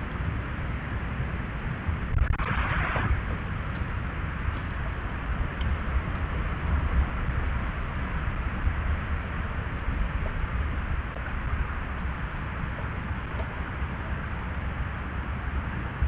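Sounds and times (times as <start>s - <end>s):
continuous hiss: 0.0s - 16.0s
uneven low rumble: 0.0s - 16.0s.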